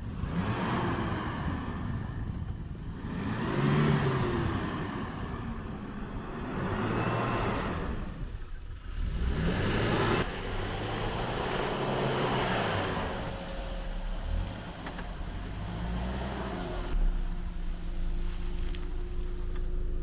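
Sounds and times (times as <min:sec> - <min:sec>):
off-road vehicle engine revving: 0:00.0 - 0:20.0
road and tyre noise: 0:00.0 - 0:20.0.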